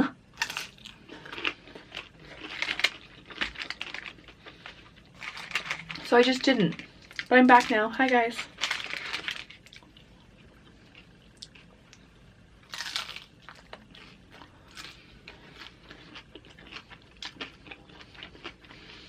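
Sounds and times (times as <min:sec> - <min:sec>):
biting into crunchy chips: 0:00.4 - 0:06.1, 0:08.5 - 0:11.7, 0:12.6 - 0:19.0
crunchy chewing: 0:00.4 - 0:06.1, 0:08.5 - 0:19.0.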